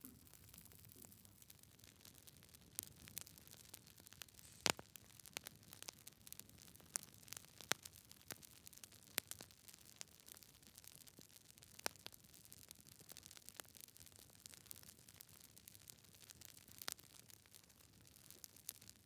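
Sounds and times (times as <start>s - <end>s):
wood fire crackling: 0.1s - 18.9s.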